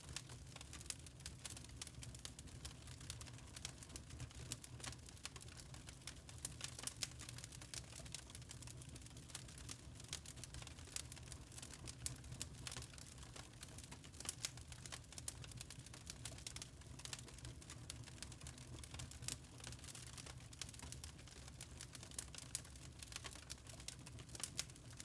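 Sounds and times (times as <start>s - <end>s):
charcoal crackling and popping: 0.0s - 25.0s.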